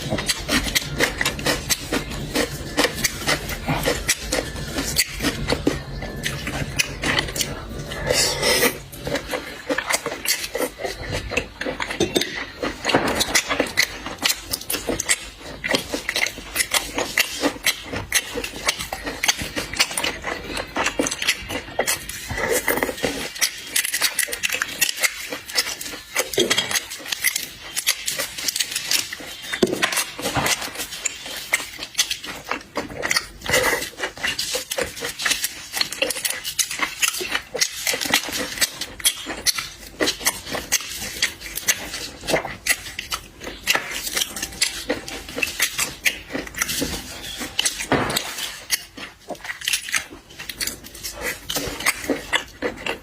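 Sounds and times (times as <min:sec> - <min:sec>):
chewing and smacking: 0:00.0 - 0:53.0.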